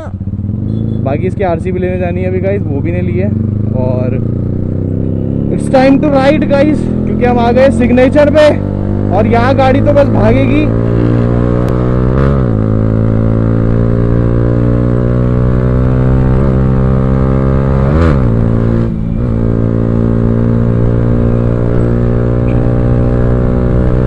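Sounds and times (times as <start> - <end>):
motorcycle engine running at speed: 0.0 - 24.0.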